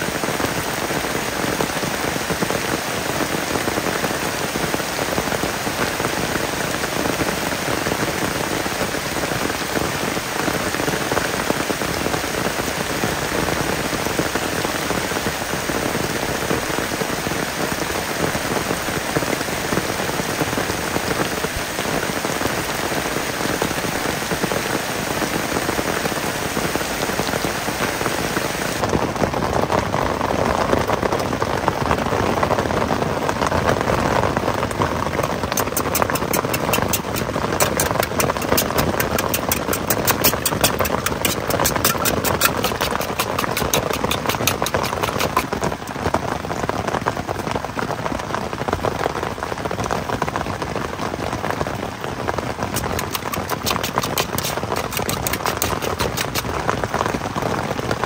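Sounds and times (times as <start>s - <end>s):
heavy rain on foliage: 0.0s - 58.0s
rain drumming on tent: 0.0s - 58.0s.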